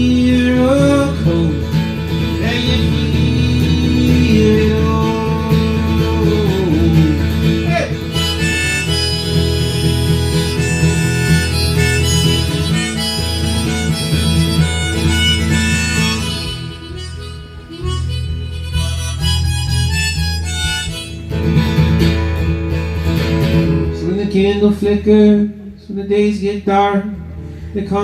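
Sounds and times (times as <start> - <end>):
strummed acoustic guitar: 0.0 - 25.5
harmonica solo: 0.2 - 22.7.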